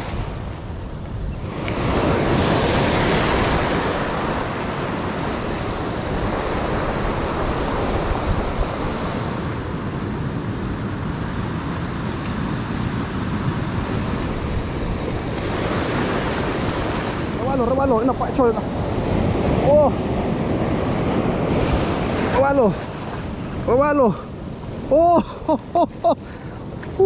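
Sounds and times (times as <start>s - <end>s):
surf washing over stony beach: 0.0s - 27.0s
wind buffeting microphone: 0.0s - 27.0s.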